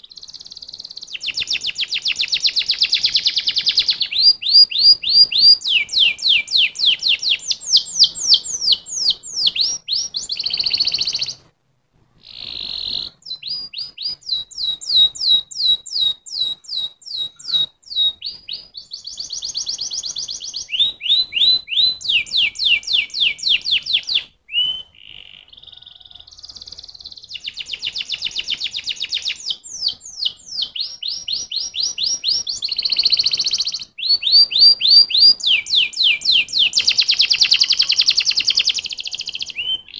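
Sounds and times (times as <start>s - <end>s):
canary singing trills: 0.0s - 11.5s, 12.2s - 39.9s.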